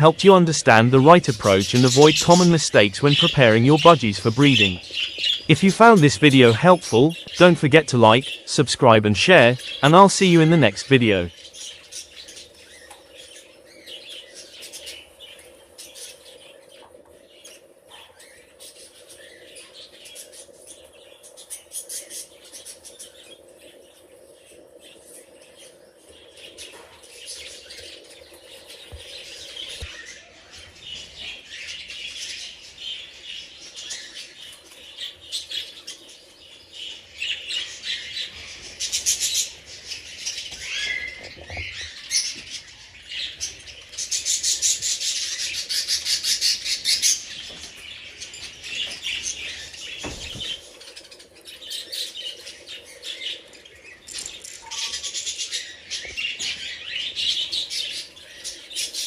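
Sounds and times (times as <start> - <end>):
budgerigars chattering and chirping: 0.0 - 16.5, 26.4 - 59.0.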